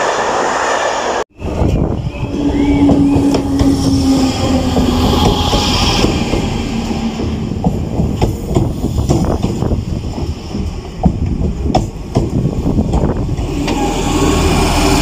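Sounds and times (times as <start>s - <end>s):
train steady hum: 0.0s - 15.0s
train low rumble: 1.3s - 15.0s
train wheels clicking over rail joints: 1.6s - 15.0s.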